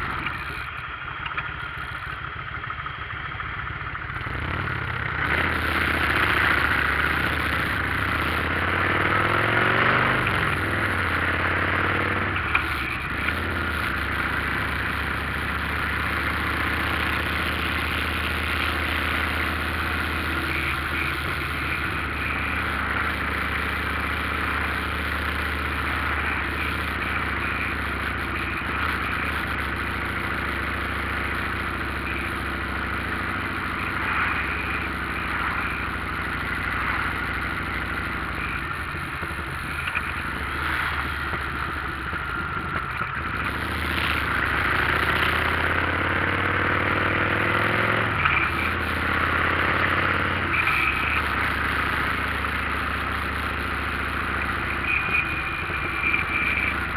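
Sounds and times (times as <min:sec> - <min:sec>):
motorcycle engine humming: 0:00.0 - 0:56.9.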